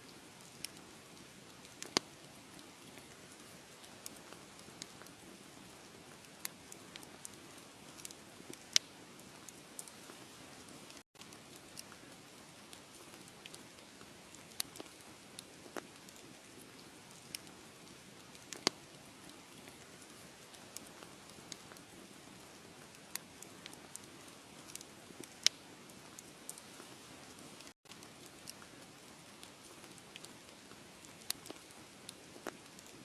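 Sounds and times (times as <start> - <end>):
wood fire crackling and popping: 0.1 - 33.0.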